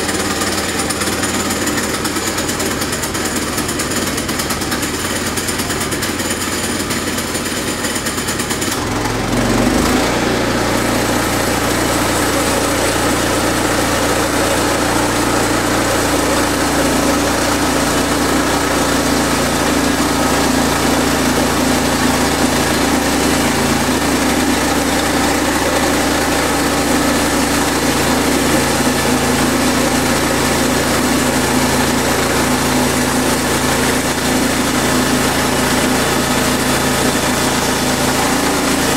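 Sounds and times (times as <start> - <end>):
small gasoline engine revving: 0.0 - 38.9.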